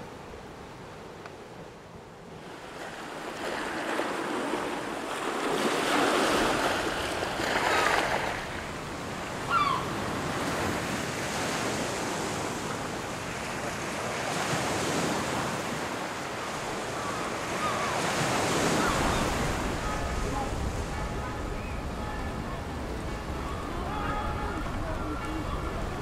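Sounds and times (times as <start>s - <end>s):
sea surf washing on shore: 0.0s - 26.0s.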